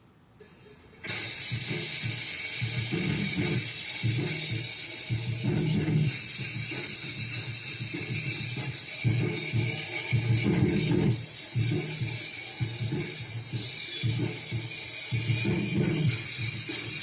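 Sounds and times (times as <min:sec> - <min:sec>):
steady high hiss: 0:00.0 - 0:17.0
irregular low-end pulse: 0:00.9 - 0:17.0.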